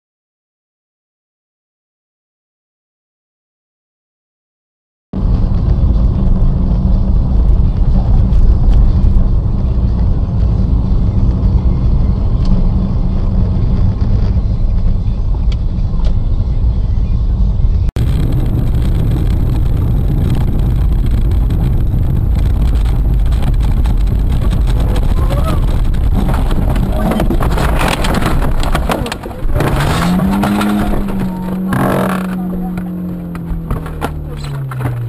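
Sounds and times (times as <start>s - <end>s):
car engine and road rumble: 5.2s - 35.0s.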